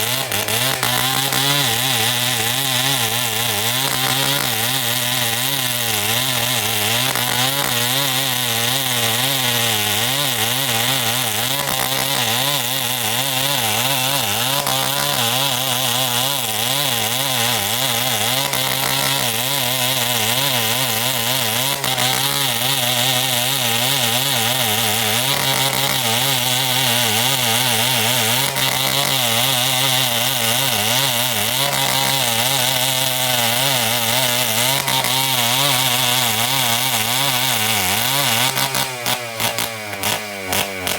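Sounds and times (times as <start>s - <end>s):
chainsaw cutting timber: 0.0s - 40.9s.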